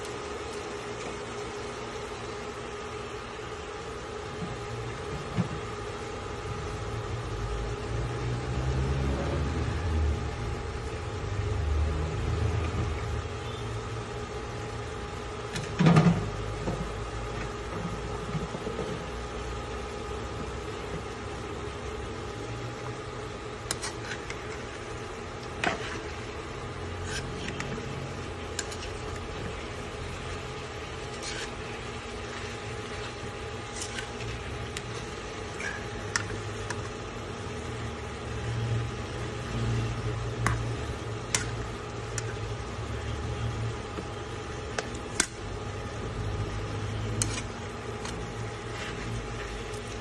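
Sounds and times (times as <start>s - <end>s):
faint hiss of food cooking: 0.0s - 50.0s
steady mechanical hum: 0.0s - 50.0s.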